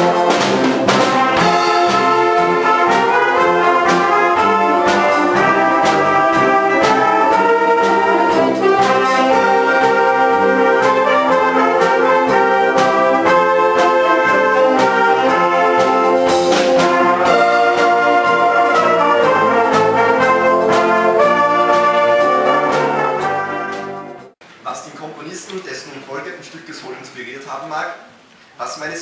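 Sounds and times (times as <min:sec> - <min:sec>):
percussion strokes: 0:00.0 - 0:24.4
wind band playing chords: 0:00.0 - 0:24.4.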